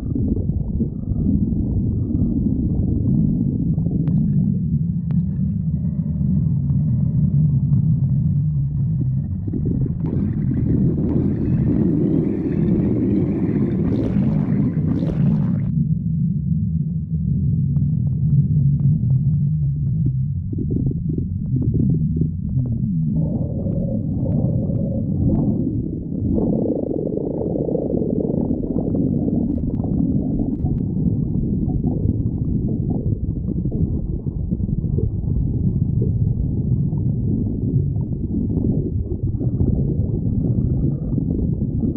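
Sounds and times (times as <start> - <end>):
stomach growling: 0.0 - 15.8, 17.2 - 41.9.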